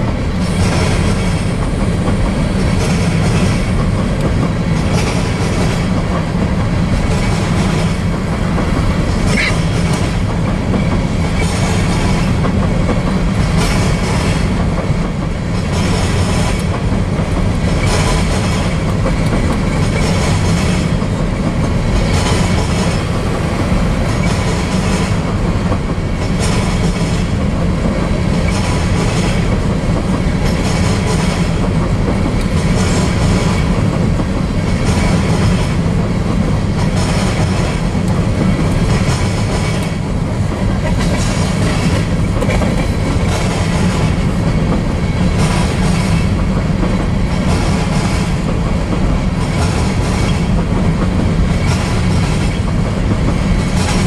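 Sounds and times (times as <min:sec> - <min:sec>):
train wheels rumbling on rail: 0:00.0 - 0:54.0
wheels clickety-clack on rail joints: 0:00.0 - 0:54.0.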